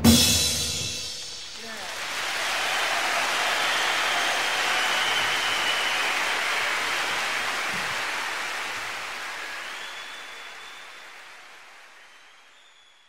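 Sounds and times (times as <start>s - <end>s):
high whistle from crowd: 0.8s - 13.0s
audience applauding: 1.0s - 13.0s.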